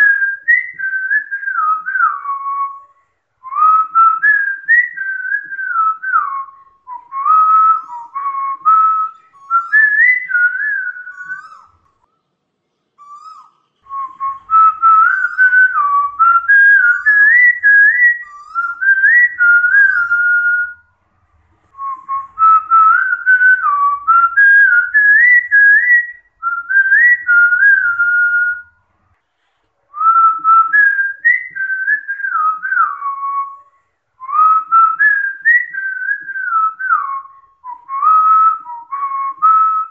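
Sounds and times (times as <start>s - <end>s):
person whistling a tune: 0.0s - 11.9s, 13.0s - 20.8s, 21.7s - 28.8s, 29.9s - 39.9s.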